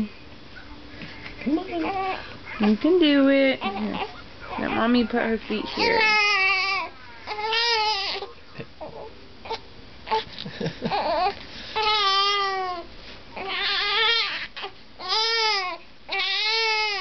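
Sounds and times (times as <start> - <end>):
newborn baby crying: 1.7 - 2.8, 3.6 - 10.3, 10.9 - 17.0
newborn baby whimpering and grunting: 1.7 - 2.9, 3.6 - 10.3, 10.9 - 17.0.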